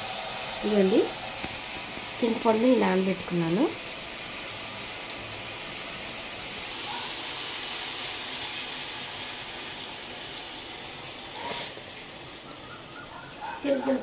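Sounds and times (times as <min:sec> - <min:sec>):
water poured into hot pan: 0:00.0 - 0:12.2
vegetables frying sizzle: 0:00.0 - 0:14.0.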